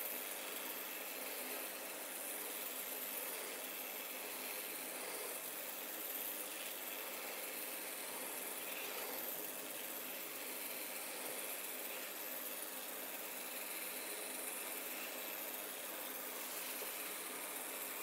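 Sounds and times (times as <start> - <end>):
small servo motors running: 0.0 - 18.0
steady hiss: 0.0 - 18.0.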